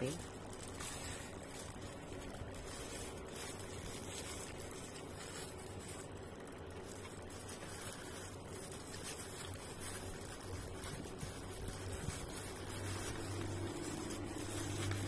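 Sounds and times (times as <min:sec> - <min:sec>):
faint chewing: 0:00.0 - 0:15.0
low hum and hiss: 0:00.0 - 0:15.0.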